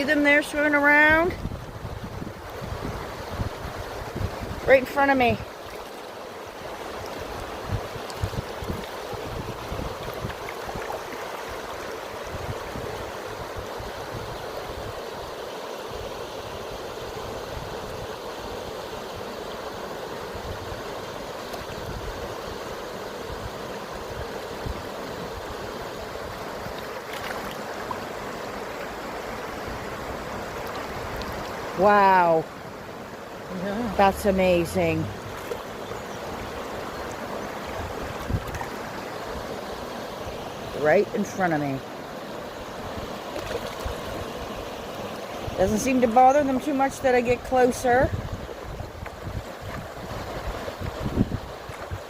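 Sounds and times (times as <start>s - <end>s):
river water lapping: 0.0s - 52.0s.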